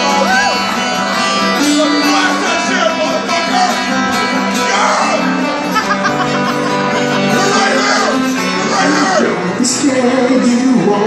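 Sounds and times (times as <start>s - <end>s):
rock ballad on guitars: 0.0s - 11.0s.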